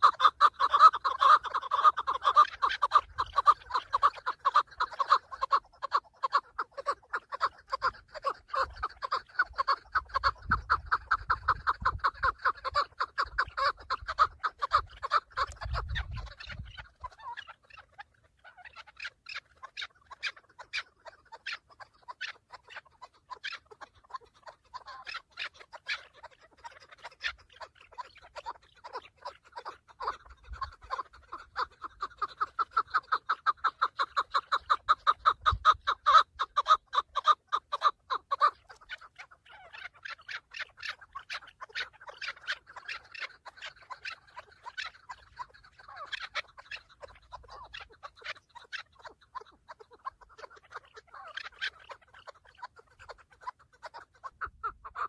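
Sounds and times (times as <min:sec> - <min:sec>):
partridge clucking calls: 0:00.0 - 0:55.0.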